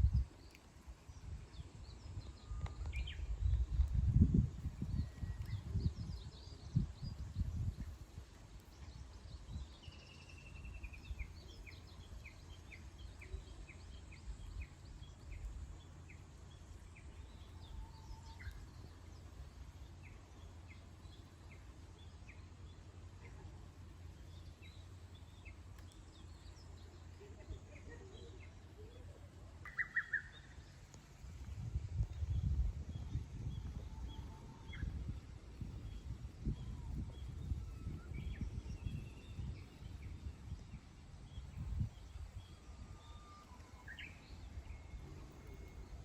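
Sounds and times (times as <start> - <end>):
low background hum: 0.0 - 46.0
wild birds chirping: 4.8 - 46.0.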